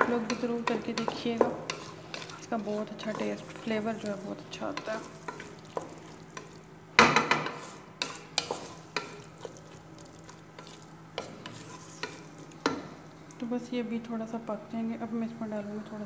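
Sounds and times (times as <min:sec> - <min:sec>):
spatula scraping pan: 0:00.0 - 0:13.0
light sizzle: 0:00.0 - 0:16.0.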